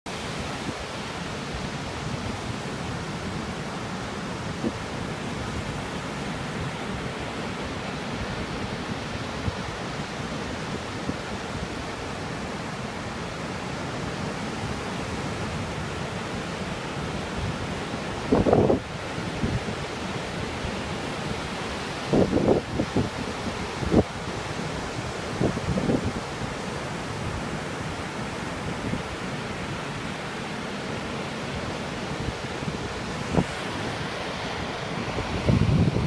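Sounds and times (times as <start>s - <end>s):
waves breaking on a beach: 0.1s - 36.0s.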